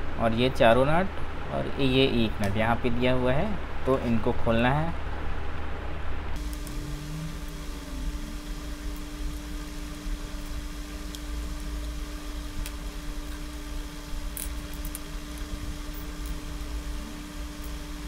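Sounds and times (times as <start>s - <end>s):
low rumble with hum: 0.0s - 18.0s.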